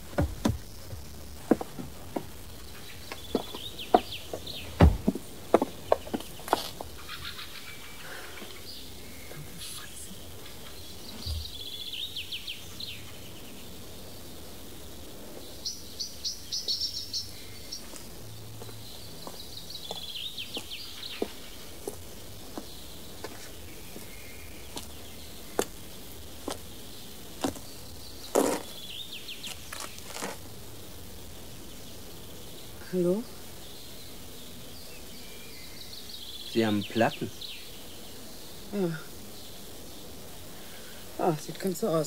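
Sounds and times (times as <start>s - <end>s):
birds chirping and trilling: 1.5s - 14.6s, 15.2s - 42.0s.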